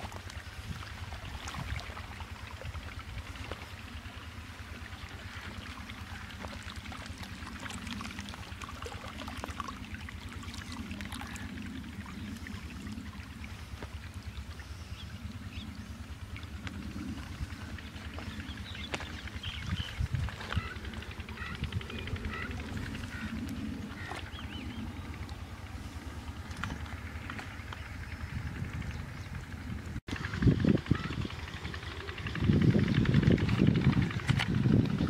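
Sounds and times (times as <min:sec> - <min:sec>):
low rumble: 0:00.0 - 0:35.0
water flowing in channel: 0:00.0 - 0:35.0.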